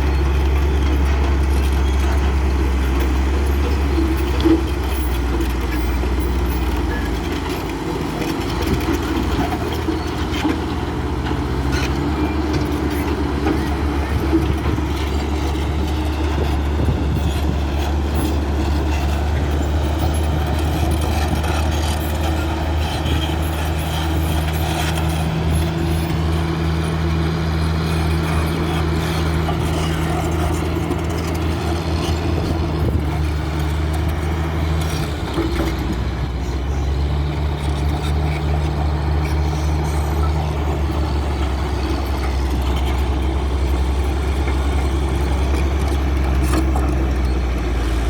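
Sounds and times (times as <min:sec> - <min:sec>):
heavy machinery diesel engines droning: 0:00.0 - 0:48.0.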